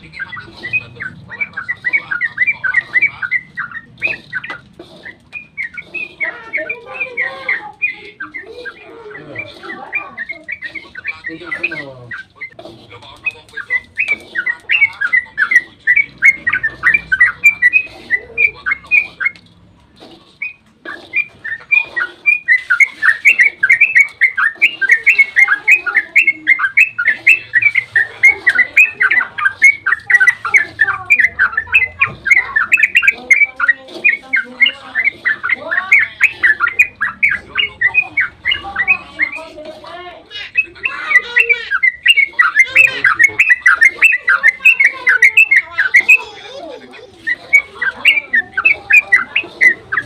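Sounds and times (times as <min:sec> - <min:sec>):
bulbul singing chattering notes: 0:00.0 - 0:50.0.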